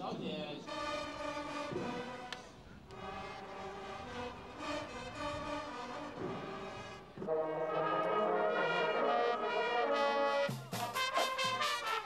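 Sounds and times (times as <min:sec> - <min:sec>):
marching band brass playing: 0:00.5 - 0:12.0.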